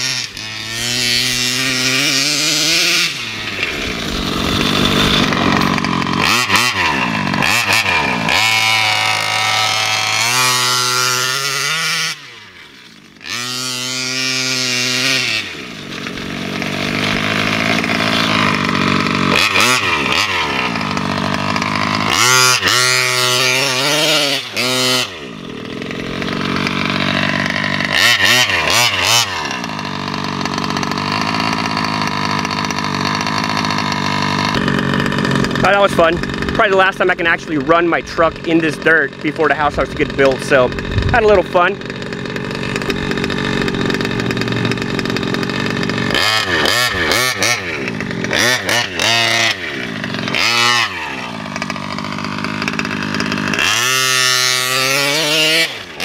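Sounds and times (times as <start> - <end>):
rc truck two-stroke engine revving: 0.0 - 56.0.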